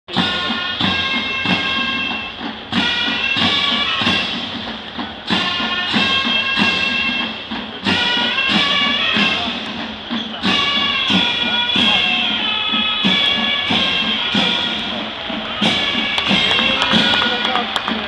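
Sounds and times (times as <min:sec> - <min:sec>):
heavy drum and cymbal strokes: 0:00.1 - 0:18.0
shrill reed pipes playing melody: 0:00.1 - 0:18.0.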